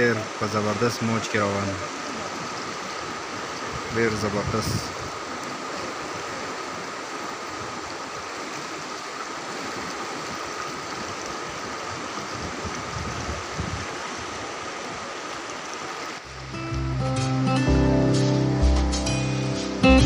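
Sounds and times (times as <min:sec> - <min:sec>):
turbulent river rushing: 0:00.0 - 0:17.6.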